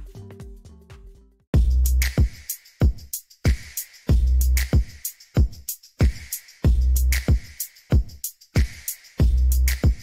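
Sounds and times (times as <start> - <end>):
electronic track with heavy bass: 1.6 - 10.0.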